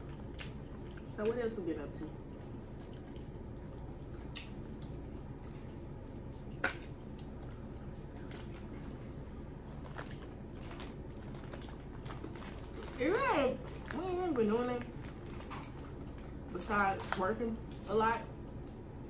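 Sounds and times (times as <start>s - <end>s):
peeling and chewing seafood: 0.0s - 14.1s, 14.8s - 17.8s
wet squishes: 0.0s - 17.9s
steady low hum: 0.0s - 19.0s.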